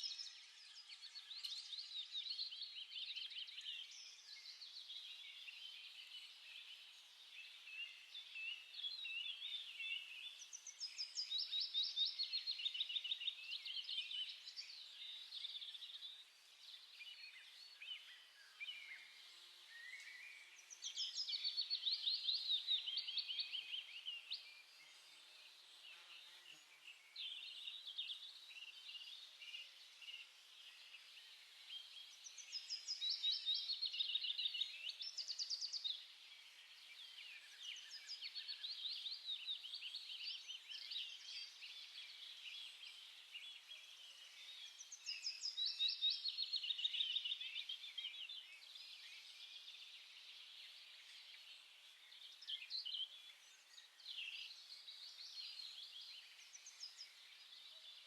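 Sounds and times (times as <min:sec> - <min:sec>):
quiet bird chirps: 0:00.0 - 0:58.0
songbirds twittering: 0:00.0 - 0:58.0.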